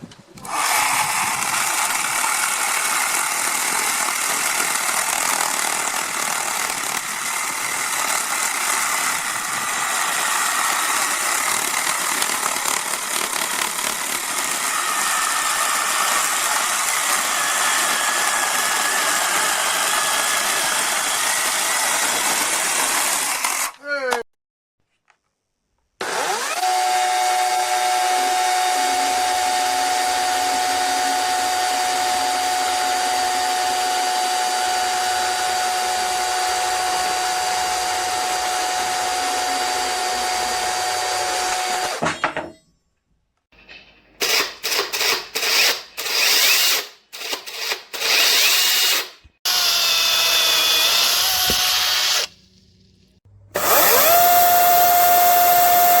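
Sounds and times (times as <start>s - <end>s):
cordless chainsaw whining: 0.4s - 23.8s, 26.0s - 42.0s, 44.2s - 52.4s, 53.6s - 56.0s.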